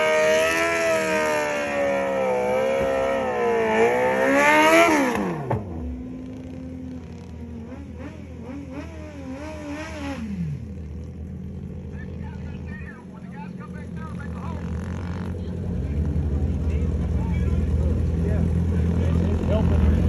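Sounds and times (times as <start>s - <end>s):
motorcycle engine revving: 0.0s - 12.9s, 13.6s - 20.0s.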